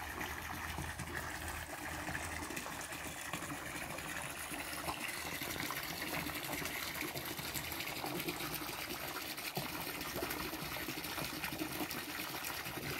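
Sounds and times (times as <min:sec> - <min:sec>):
water pouring into pond: 0:00.0 - 0:12.9.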